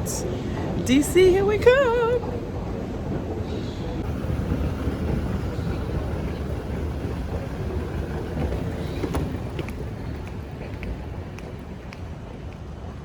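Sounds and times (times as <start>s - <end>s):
terminal background rumble: 0.0s - 13.0s.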